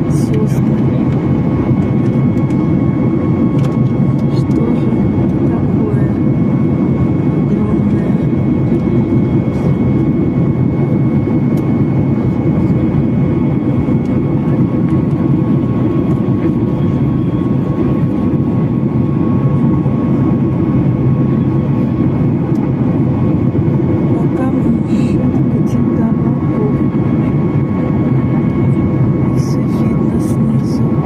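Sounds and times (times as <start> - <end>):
jet engine and airflow rumble: 0.0 - 31.0.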